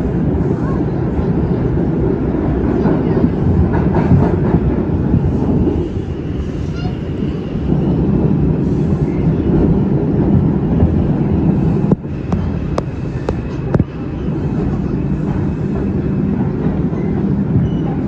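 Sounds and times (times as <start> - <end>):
subway wheels rumbling on rails: 0.0 - 18.0.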